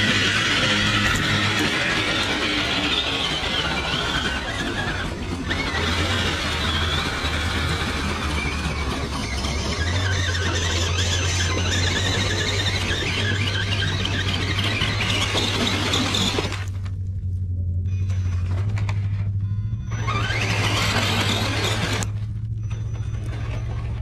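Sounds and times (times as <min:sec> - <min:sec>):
electric motors whining: 0:00.0 - 0:24.0
steady low hum: 0:00.0 - 0:24.0.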